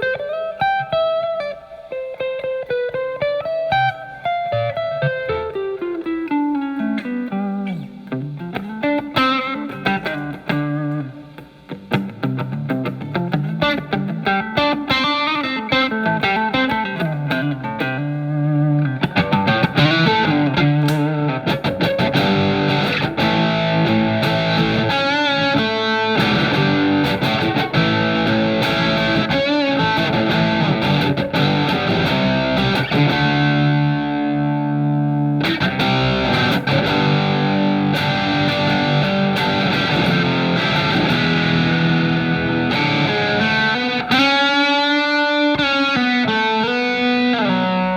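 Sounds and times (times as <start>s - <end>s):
distorted electric guitar: 0.0s - 47.9s.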